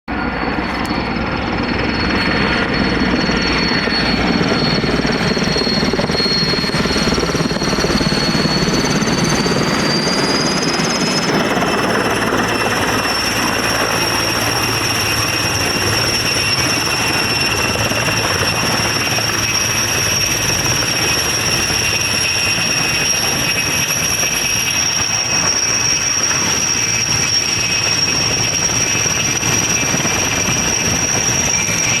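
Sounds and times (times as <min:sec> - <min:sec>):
helicopter rotor noise: 0:00.1 - 0:32.0
helicopter turbine whine: 0:00.1 - 0:32.0.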